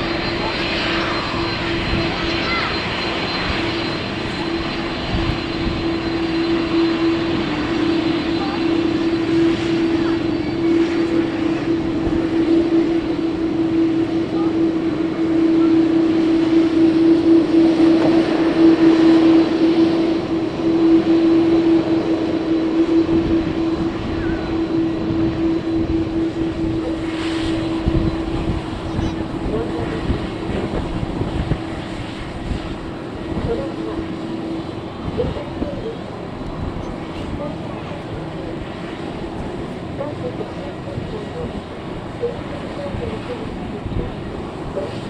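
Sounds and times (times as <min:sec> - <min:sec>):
jet engines droning: 0:00.0 - 0:45.0
wind buffeting microphone: 0:00.0 - 0:45.0.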